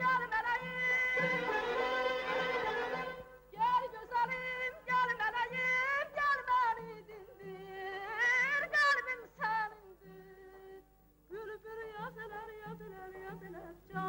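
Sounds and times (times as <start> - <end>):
woman singing with trills: 0.0 - 14.0.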